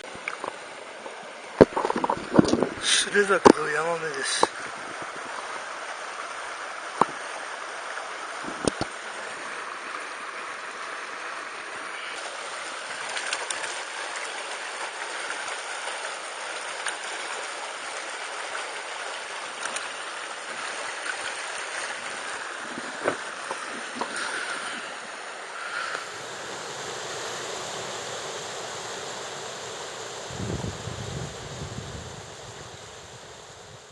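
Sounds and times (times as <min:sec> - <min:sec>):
stream rushing over stones: 0:00.0 - 0:33.9.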